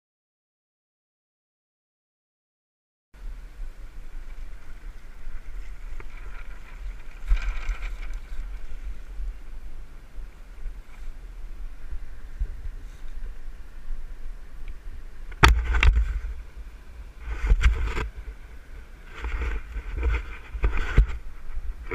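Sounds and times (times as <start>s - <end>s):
steady rushing hiss: 3.2s - 21.9s
wind buffeting microphone: 3.2s - 21.9s.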